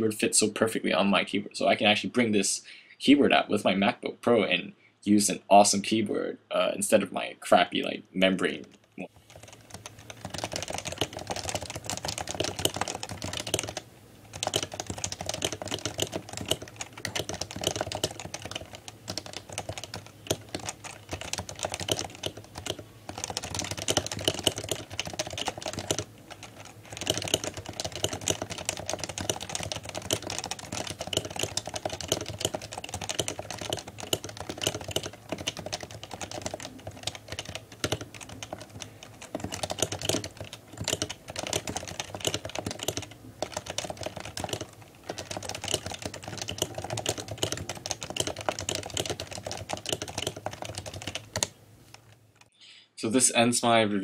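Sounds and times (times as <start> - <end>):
fast keyboard typing: 8.5 - 52.5.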